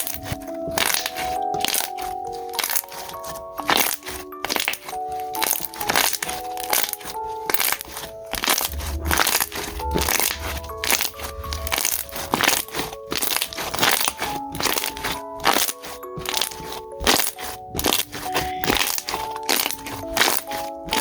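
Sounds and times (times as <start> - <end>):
light background melody: 0.0 - 21.0
slime squeezing and crackling: 0.0 - 21.0.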